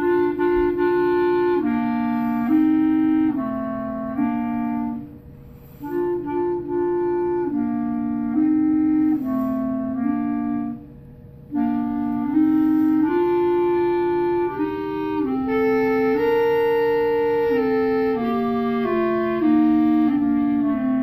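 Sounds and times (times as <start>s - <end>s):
two-part instrumental melody: 0.0s - 5.2s, 5.9s - 21.0s.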